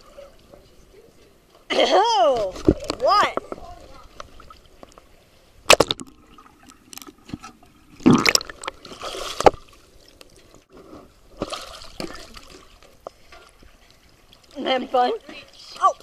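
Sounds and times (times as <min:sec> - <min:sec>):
pool water splashing: 0:00.0 - 0:16.0.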